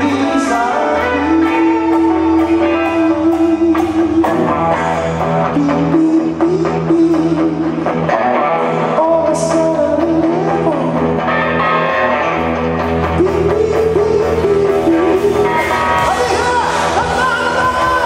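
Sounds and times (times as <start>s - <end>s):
bass guitar: 0.0s - 18.0s
electric guitar bending notes: 0.0s - 18.0s
live rock band playing: 0.0s - 18.0s.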